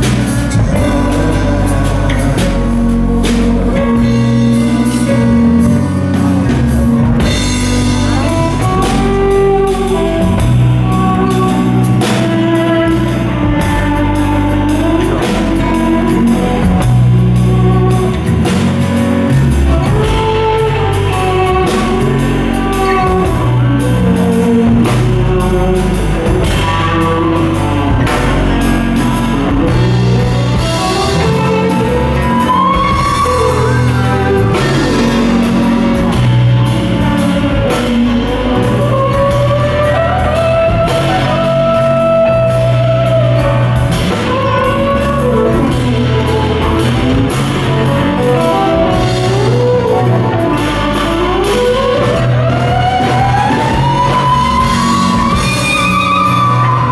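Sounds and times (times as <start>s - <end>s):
fretless electric guitar solo: 0.0s - 56.9s
low accompanying notes: 0.0s - 56.9s.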